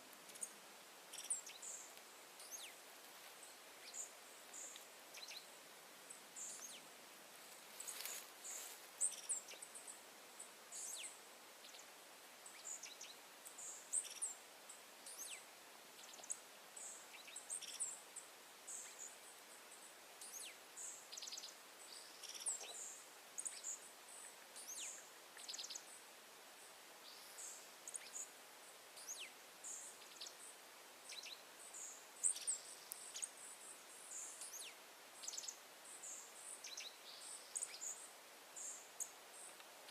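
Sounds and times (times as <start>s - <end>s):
soft steady hiss: 0.0s - 39.9s.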